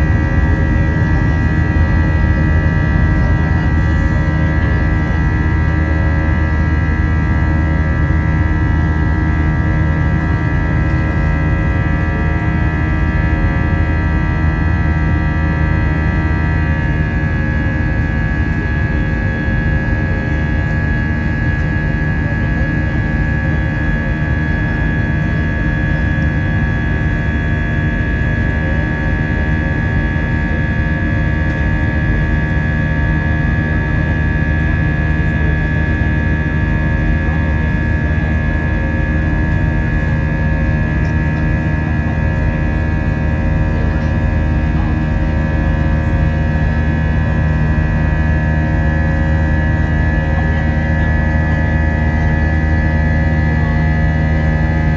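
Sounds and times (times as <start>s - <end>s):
jet engine drone in cabin: 0.0s - 54.9s.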